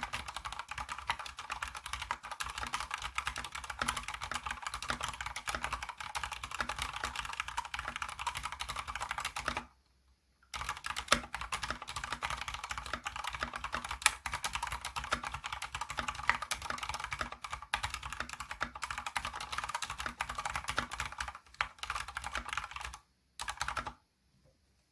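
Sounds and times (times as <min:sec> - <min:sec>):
fast mechanical keyboard typing: 0:00.0 - 0:09.7, 0:10.5 - 0:24.0.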